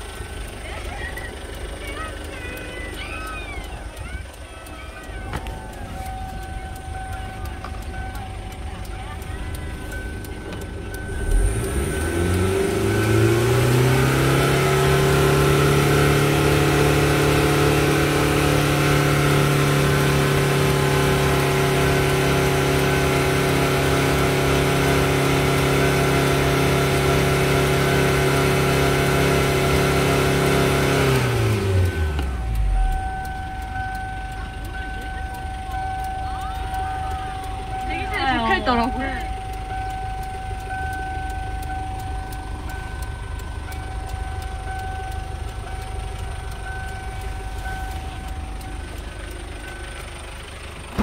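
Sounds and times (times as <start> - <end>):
diesel engine revving: 0.0 - 51.0.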